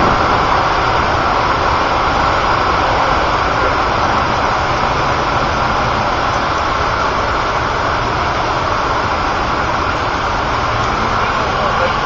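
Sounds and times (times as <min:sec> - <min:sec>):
water rushing over a dam: 0:00.0 - 0:12.0.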